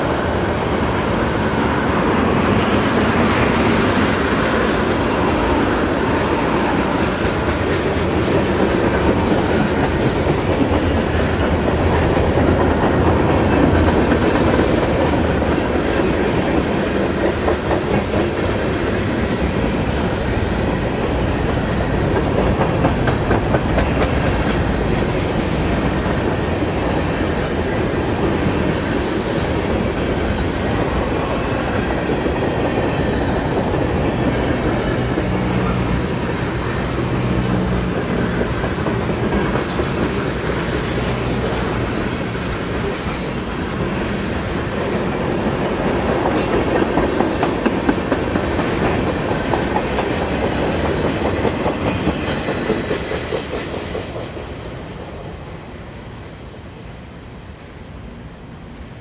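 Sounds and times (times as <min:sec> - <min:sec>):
train wheels rumbling and rattling: 0:00.0 - 0:57.1.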